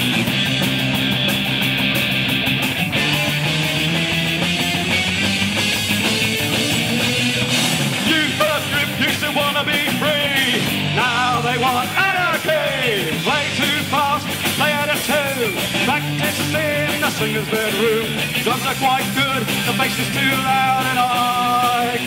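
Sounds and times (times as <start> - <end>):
bending lead guitar line: 0.0 - 22.0
punk rock band playing: 0.0 - 22.0.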